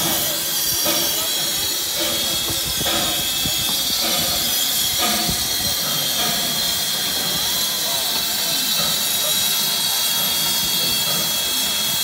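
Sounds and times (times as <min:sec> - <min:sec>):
steam hissing: 0:00.0 - 0:12.0
steam train knocking: 0:00.0 - 0:12.0.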